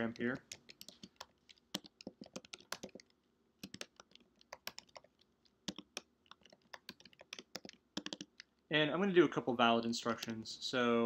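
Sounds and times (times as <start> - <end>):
faint computer keyboard typing: 0.0 - 8.6, 10.0 - 10.4.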